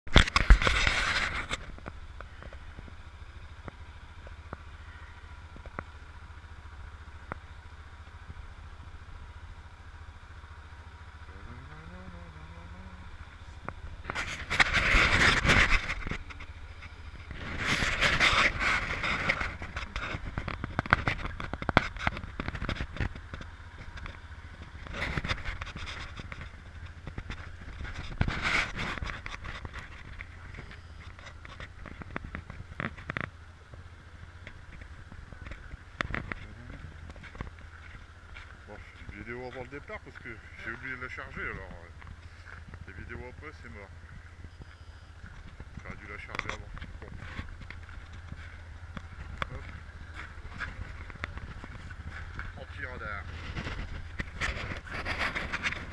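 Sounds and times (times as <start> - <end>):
motorcycle engine idling: 0.1 - 55.9.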